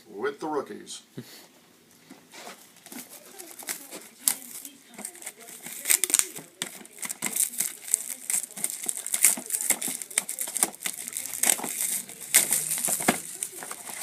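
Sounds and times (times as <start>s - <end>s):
plastic wrap crinkling and tearing: 2.4s - 14.0s.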